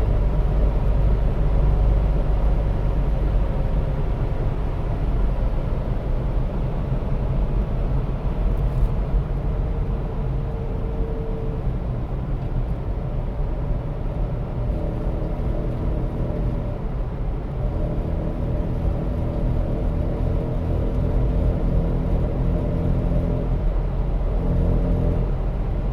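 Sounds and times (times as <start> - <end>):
road and drivetrain rumble: 0.0 - 25.9.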